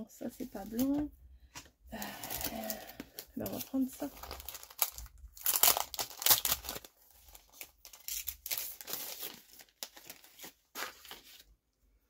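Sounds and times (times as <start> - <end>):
packaging crinkling and rustling: 0.3 - 11.6.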